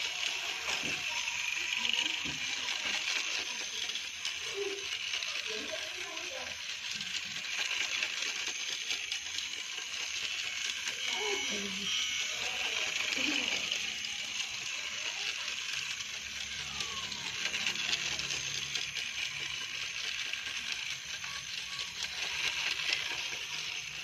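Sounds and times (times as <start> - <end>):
fast fine ticking: 0.0 - 24.0
toy locomotive motors whirring: 0.0 - 24.0.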